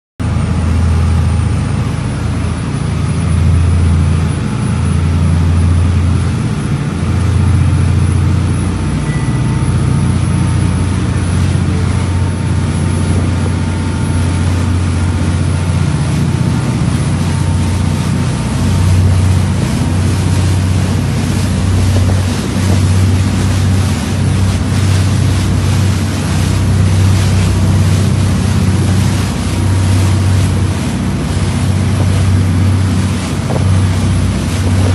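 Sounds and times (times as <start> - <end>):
boat engine rumbling: 0.2 - 34.9
water noise: 0.2 - 34.9
wind: 0.2 - 34.9.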